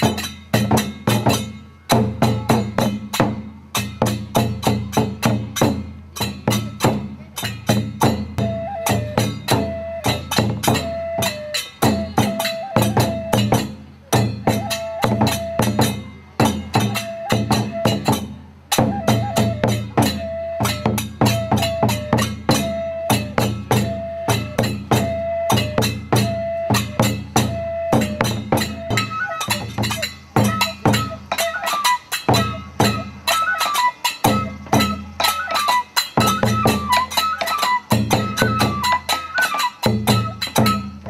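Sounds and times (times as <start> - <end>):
taiko drum beating: 0.0 - 41.0.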